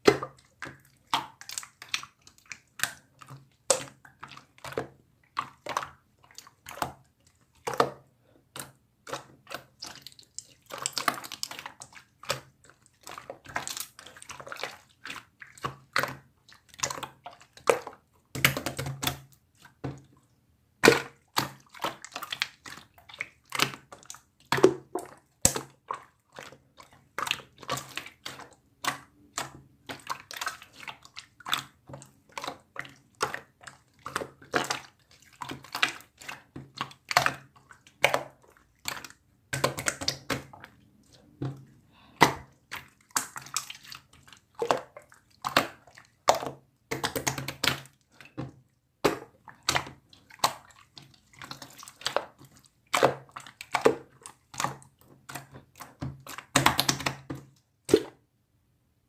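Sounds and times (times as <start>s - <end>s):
wet squelching and splashing: 0.0s - 58.2s.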